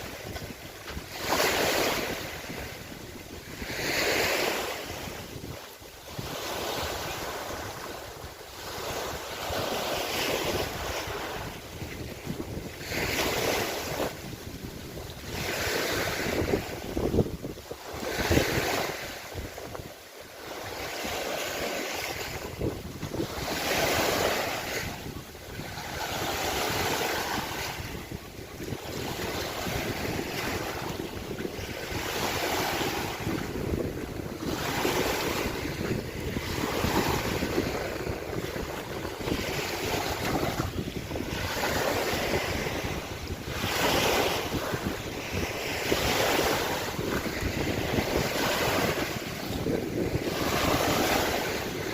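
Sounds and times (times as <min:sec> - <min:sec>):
waves washing against shore: 0:00.0 - 0:51.9
wind rumbling on microphone: 0:00.0 - 0:51.9.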